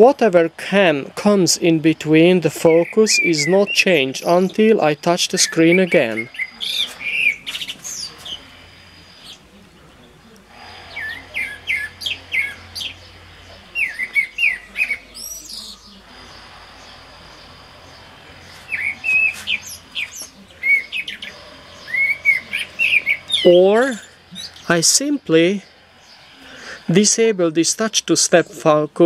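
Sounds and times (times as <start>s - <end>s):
birds chirping and singing: 0.0s - 29.0s.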